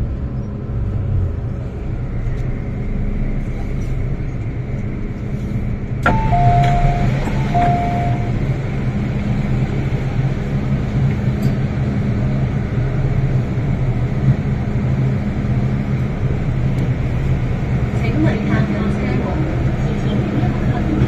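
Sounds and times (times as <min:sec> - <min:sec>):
low motor hum: 0:00.0 - 0:19.8
train wheels rumbling on rail: 0:00.0 - 0:21.0.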